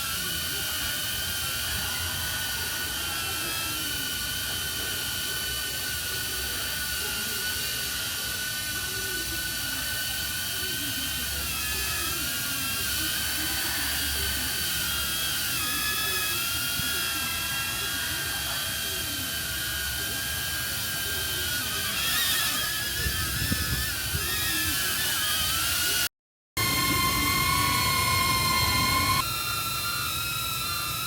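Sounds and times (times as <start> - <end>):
drone propeller whine: 0.0 - 31.0.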